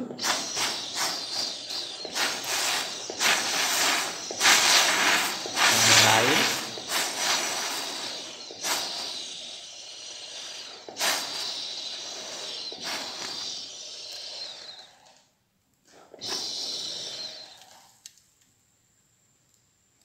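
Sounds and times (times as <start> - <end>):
gas torch hissing: 0.0 - 18.1.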